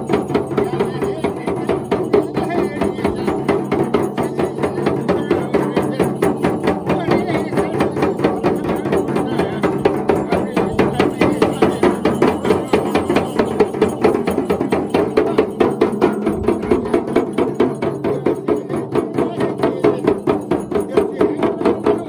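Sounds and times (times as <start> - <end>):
frame drums beaten with sticks: 0.0 - 22.0.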